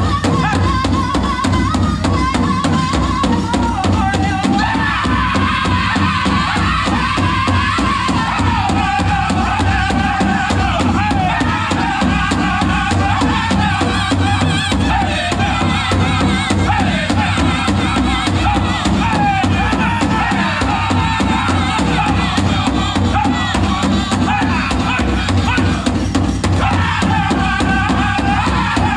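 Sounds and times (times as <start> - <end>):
big drum steady beat: 0.0 - 28.9
drum group singing: 0.0 - 28.9.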